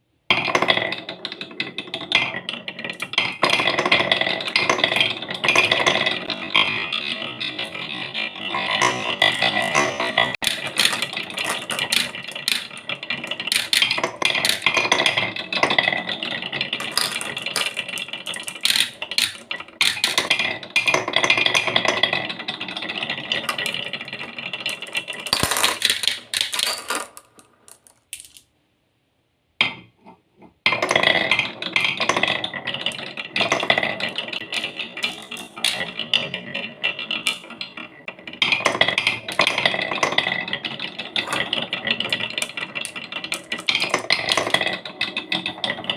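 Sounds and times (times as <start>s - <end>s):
marbles clattering down wooden run: 0.4s - 28.4s, 30.7s - 45.9s.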